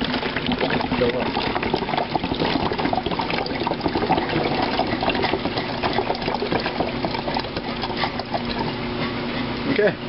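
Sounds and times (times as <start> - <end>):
liquid pouring into plastic bottle: 0.0 - 8.8.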